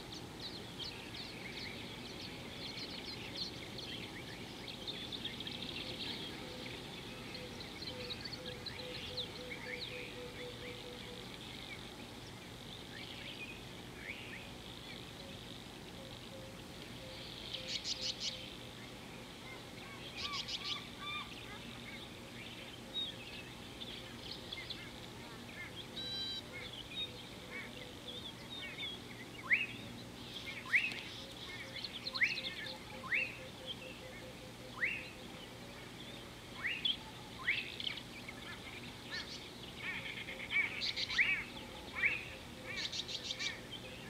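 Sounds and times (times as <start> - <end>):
birds chirping and trilling: 0.0 - 44.0
steady low hum: 0.0 - 44.0.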